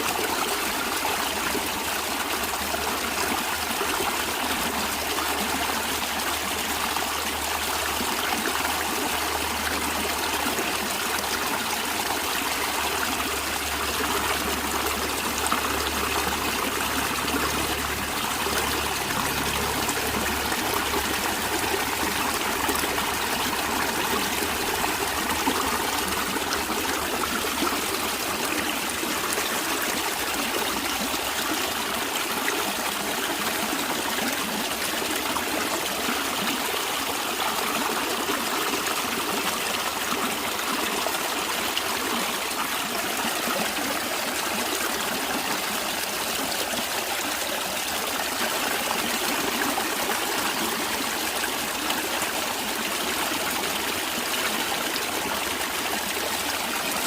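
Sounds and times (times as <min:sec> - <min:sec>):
stream trickling over rocks: 0:00.0 - 0:57.0.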